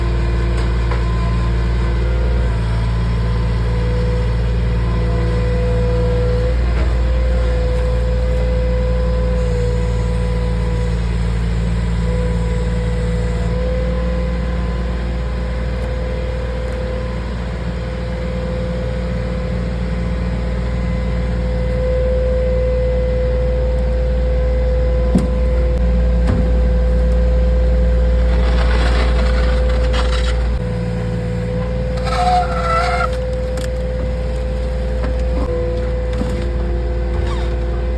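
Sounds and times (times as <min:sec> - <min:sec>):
skid steer engine running: 0:00.0 - 0:37.9.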